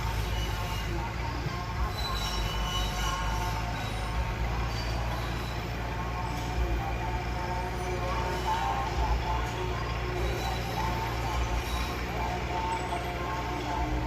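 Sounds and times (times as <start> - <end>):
diesel engine rumbling: 0.0 - 14.0
steel tracks squealing: 0.0 - 14.0.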